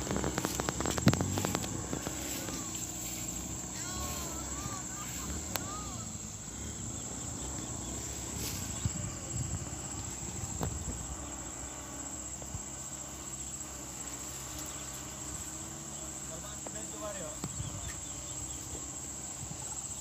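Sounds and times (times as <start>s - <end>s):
high-pitched insect chirring: 0.0s - 20.0s
truck engine rumble: 0.0s - 20.0s.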